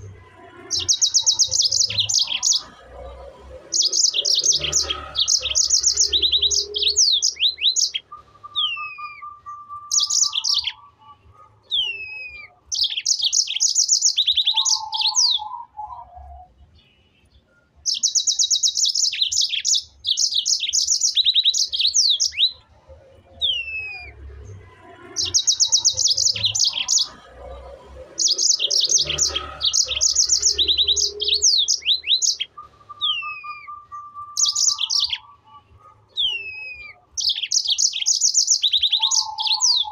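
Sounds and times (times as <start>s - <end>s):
bird trills: 0.6s - 17.0s, 17.8s - 22.6s, 25.1s - 27.4s, 28.1s - 39.9s.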